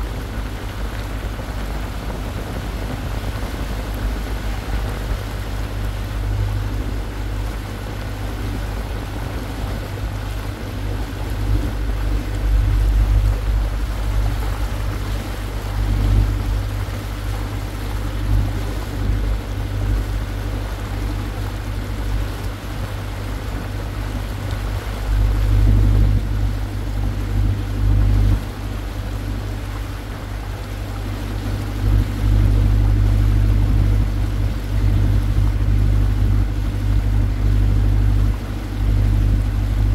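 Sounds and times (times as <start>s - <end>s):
boat engine rumbling: 0.0s - 39.9s
water washing along hull: 0.0s - 39.9s.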